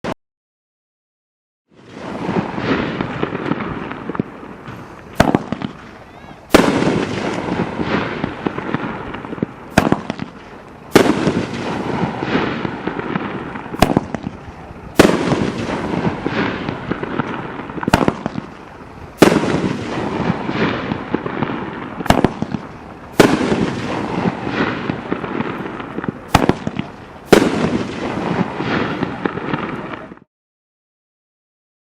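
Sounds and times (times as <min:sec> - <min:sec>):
crackling hiss: 0:01.7 - 0:30.3
firework cake reports: 0:01.7 - 0:30.3.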